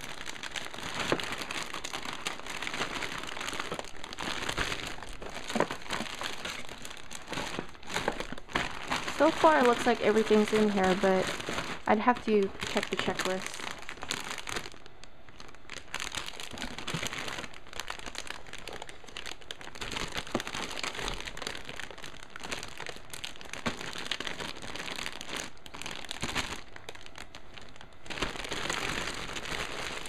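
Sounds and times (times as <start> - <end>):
plastic bags crinkling: 0.0 - 30.0.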